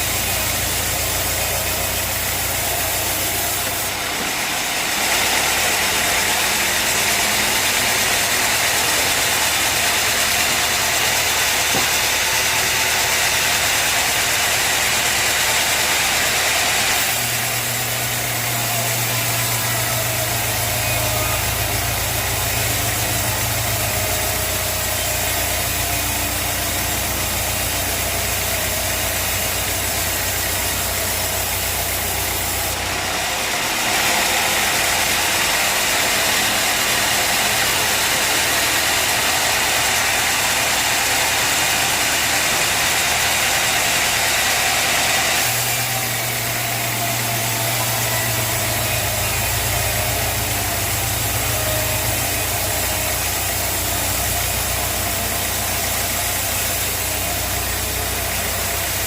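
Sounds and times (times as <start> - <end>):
saw blade cutting log: 0.0 - 59.0
sawmill engine running: 0.0 - 59.0.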